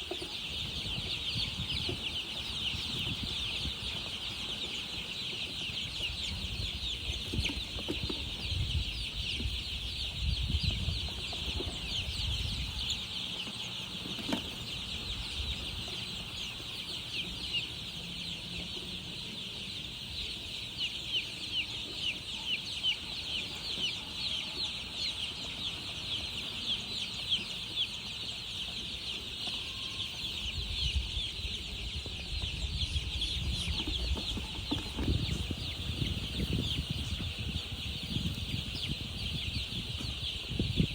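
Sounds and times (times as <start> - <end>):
baby chicks peeping: 0.0 - 40.9.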